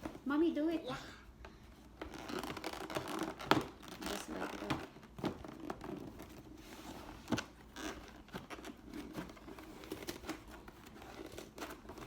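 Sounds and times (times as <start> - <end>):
packaging rustling and scraping: 1.8 - 12.0.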